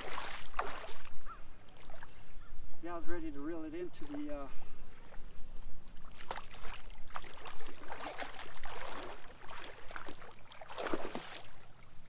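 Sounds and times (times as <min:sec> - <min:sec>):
splashing in shallow water: 0:00.0 - 0:02.3, 0:03.4 - 0:12.0.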